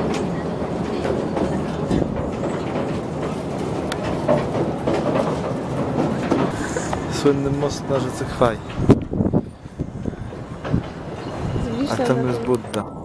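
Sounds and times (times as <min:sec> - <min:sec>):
train wheels rumbling on rails: 0:00.0 - 0:13.0
wheel clacks: 0:00.0 - 0:13.0.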